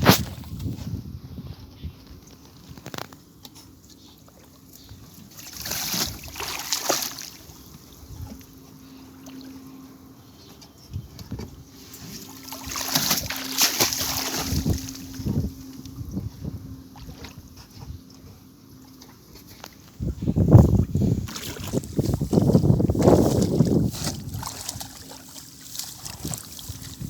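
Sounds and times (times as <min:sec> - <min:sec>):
faint steady hum: 0:00.2 - 0:27.0
water splashing and sloshing: 0:02.2 - 0:27.0.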